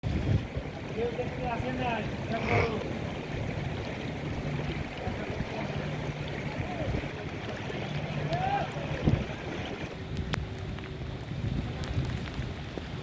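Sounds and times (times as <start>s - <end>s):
low engine hum: 0.0s - 13.0s
rushing rain and floodwater: 0.0s - 13.0s.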